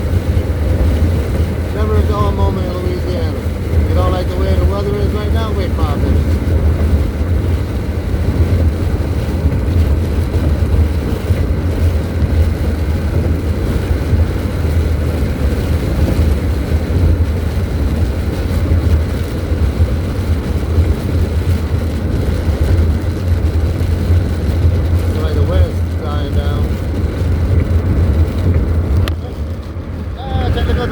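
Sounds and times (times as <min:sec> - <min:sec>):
car cabin road rumble: 0:00.0 - 0:30.9.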